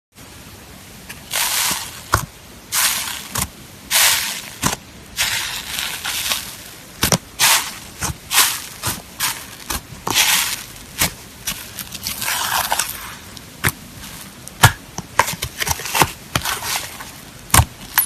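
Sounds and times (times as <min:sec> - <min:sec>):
slime squishing and crackling: 0:01.3 - 0:18.0.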